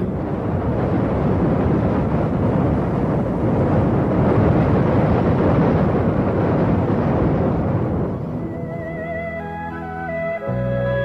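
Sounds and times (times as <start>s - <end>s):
deep rumble: 0.0s - 11.0s.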